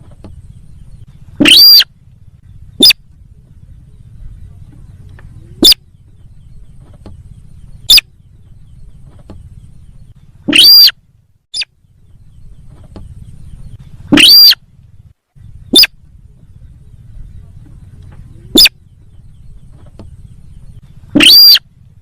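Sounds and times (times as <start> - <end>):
bird calls: 0.0 - 22.0
faint low hum: 0.0 - 22.0.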